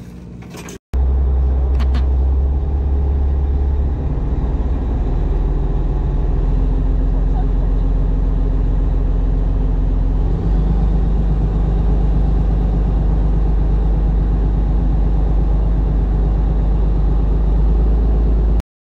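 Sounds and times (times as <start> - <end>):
boat engine rumbling: 1.0 - 18.6.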